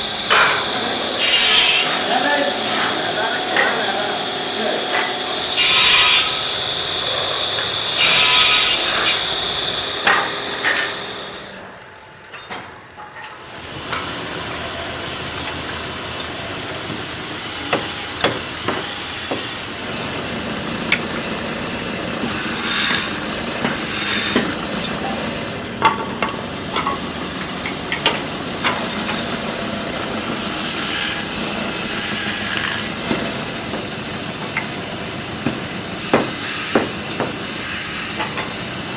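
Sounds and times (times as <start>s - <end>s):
power tool whining cutting wood: 0.0s - 11.7s, 13.5s - 38.9s
steady machine noise: 0.0s - 11.8s, 13.5s - 38.9s.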